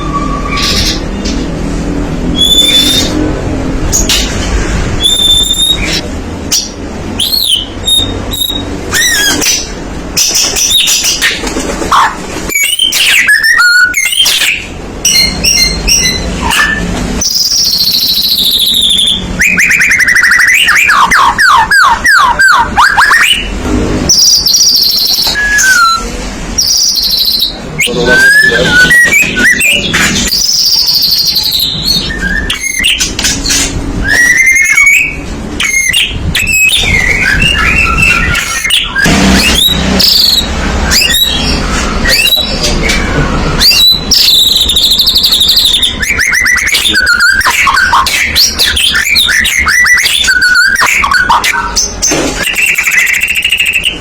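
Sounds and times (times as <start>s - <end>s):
bird singing whistles and trills: 0.0s - 1.4s, 2.3s - 3.3s, 5.0s - 6.6s, 7.2s - 23.5s, 24.1s - 54.0s.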